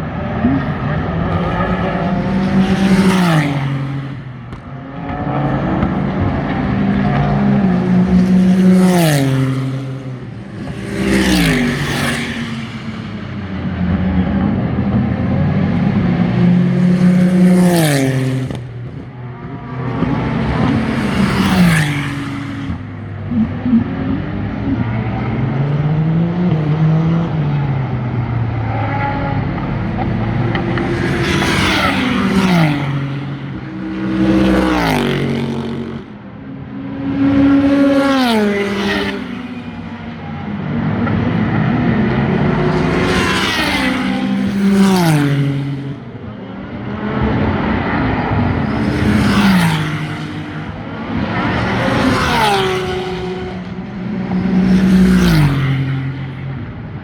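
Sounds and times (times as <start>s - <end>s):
distant race car engines: 0.0s - 57.0s
race cars passing by: 0.0s - 57.0s.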